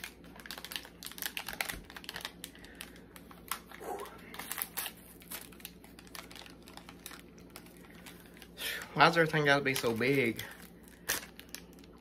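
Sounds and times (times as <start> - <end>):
candy wrapper crinkling: 0.0 - 12.0.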